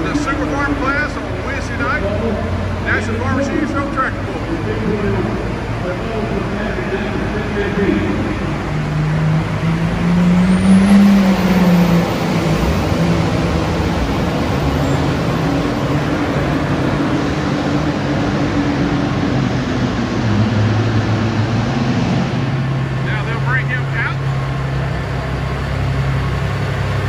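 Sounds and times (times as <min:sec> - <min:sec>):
diesel tractor engines running: 0:00.0 - 0:27.0.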